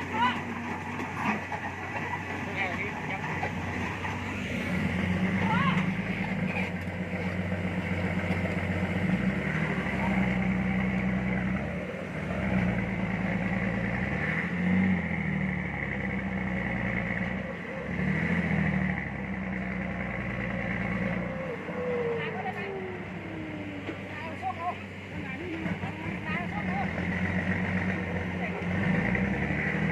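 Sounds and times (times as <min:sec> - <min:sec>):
diesel engine under load: 0:00.0 - 0:29.9.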